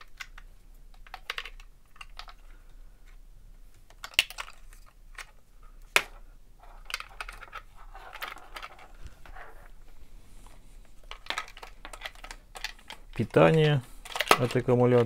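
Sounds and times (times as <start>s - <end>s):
scraping and handling noise: 0.0s - 15.0s
wires rustling: 0.0s - 15.0s.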